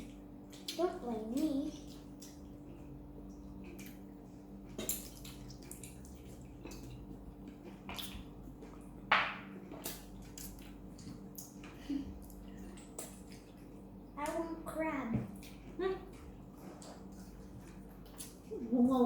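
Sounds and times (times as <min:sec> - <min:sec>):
steady low hum: 0:00.0 - 0:19.0
wet eating noises: 0:00.0 - 0:19.0.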